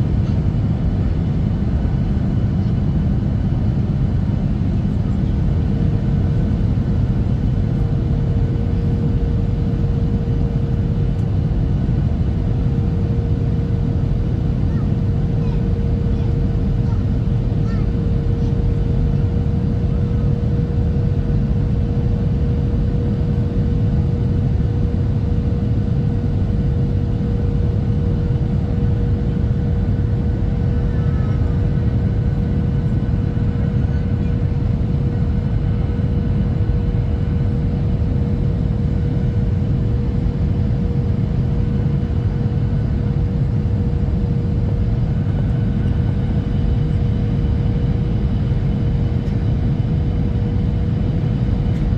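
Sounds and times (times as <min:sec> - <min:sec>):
jet engine rumble: 0:00.0 - 0:51.9.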